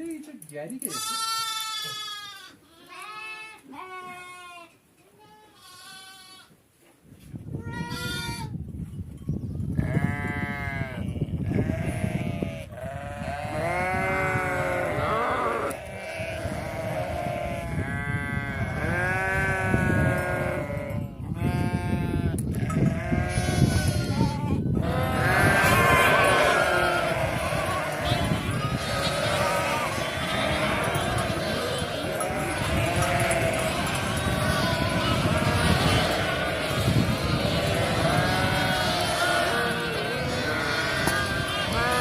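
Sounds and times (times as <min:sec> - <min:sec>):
sheep and goats bleating: 0:00.8 - 0:06.5, 0:07.6 - 0:08.5, 0:09.8 - 0:42.0.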